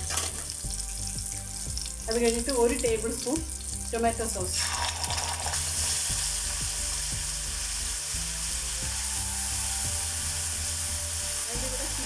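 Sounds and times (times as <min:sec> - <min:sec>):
sauce sizzling in a pan: 0:00.0 - 0:12.0.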